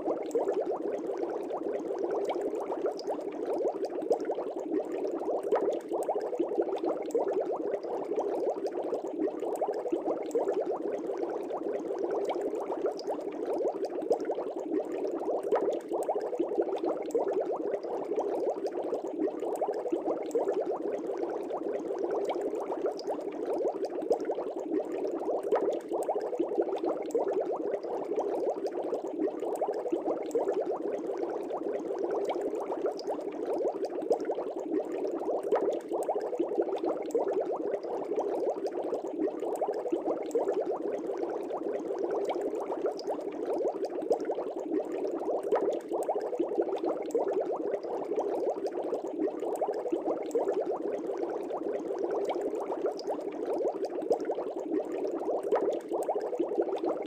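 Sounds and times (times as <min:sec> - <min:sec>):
aquarium air bubbling: 0:00.0 - 0:57.0.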